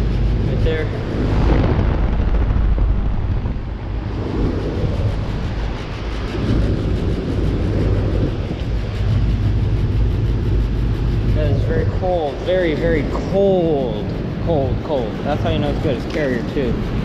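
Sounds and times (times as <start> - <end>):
compressor humming: 0.0 - 17.0
condenser fans rushing air: 0.0 - 17.0
wind buffeting microphone: 0.0 - 17.0.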